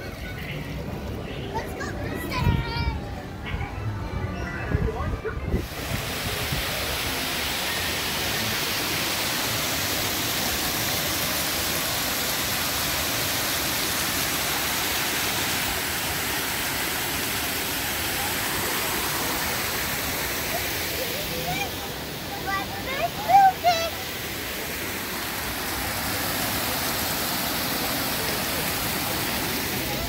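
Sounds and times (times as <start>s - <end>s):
water spraying and splashing: 5.6s - 30.0s.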